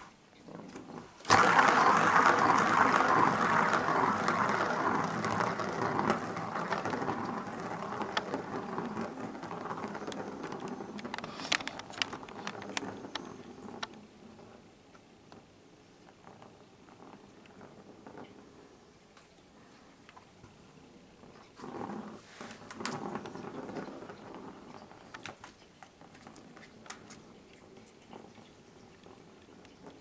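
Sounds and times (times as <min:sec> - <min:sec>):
plastic ball rolling on track: 0:00.0 - 0:30.0.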